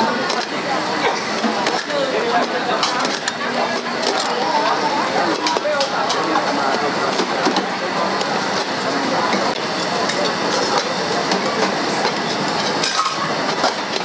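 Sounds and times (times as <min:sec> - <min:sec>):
steady dense noise: 0:00.0 - 0:14.0.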